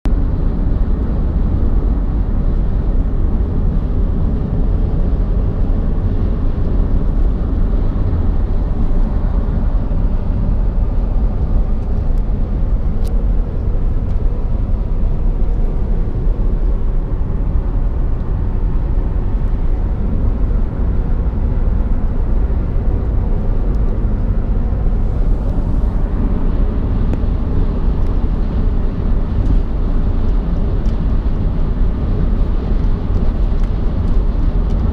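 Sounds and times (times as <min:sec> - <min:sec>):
car road and wind noise: 0:00.0 - 0:34.9.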